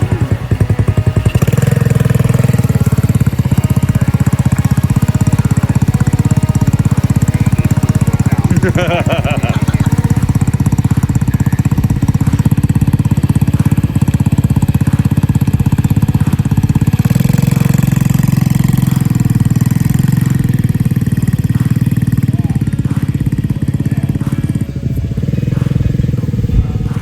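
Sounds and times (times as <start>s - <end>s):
small engine puttering: 0.0s - 27.0s.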